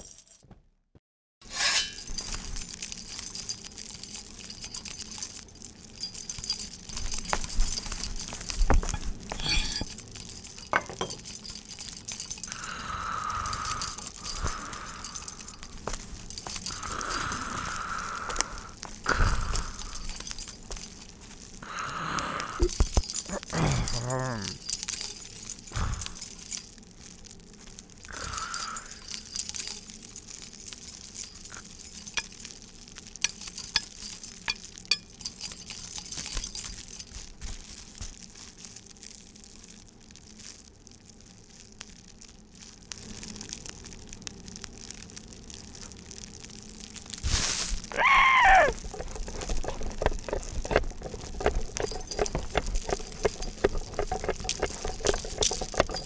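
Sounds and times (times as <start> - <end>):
small clinks and jangles: 0.0 - 0.5, 1.5 - 56.0.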